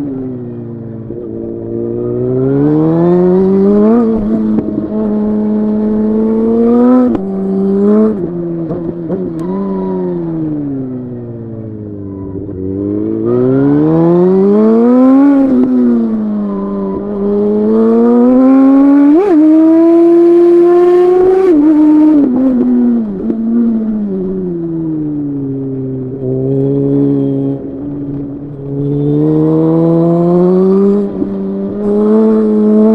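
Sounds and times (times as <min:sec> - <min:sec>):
motorcycle engine revving: 0:01.0 - 0:32.9.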